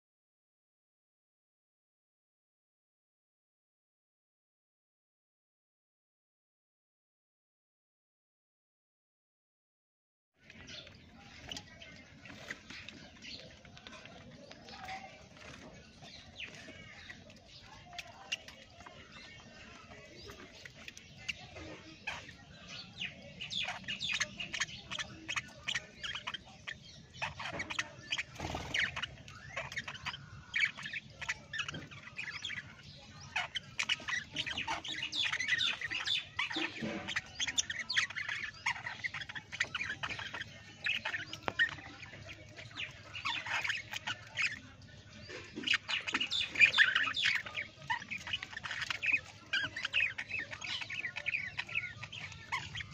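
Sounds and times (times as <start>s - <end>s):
parrots squawking and chirping: 10.4s - 52.9s.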